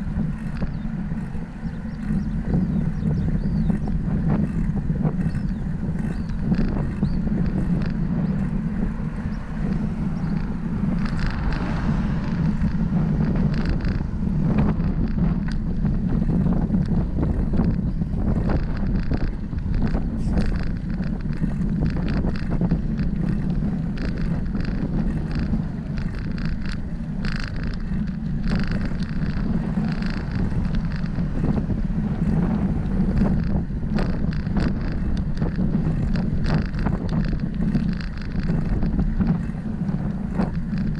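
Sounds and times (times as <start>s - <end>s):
wind buffeting microphone: 0.0s - 40.9s
short clicks and rattles: 0.4s - 40.9s.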